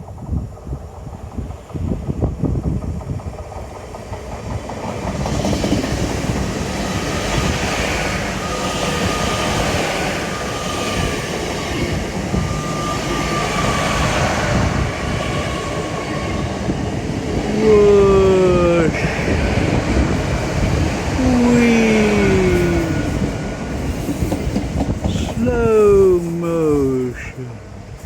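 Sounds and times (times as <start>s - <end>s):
train wheels rumbling on track: 0.0s - 21.2s, 21.8s - 26.8s.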